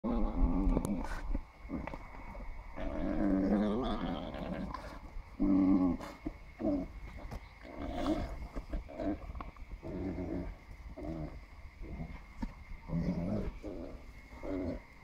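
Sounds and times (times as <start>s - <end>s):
llama guttural warbling calls: 0.0s - 15.0s.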